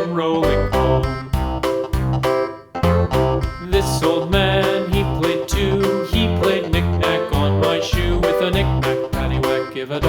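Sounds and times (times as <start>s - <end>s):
plucked guitar: 0.0s - 10.0s
upbeat instrumental music: 0.0s - 10.0s
steady bass beat: 0.4s - 9.6s.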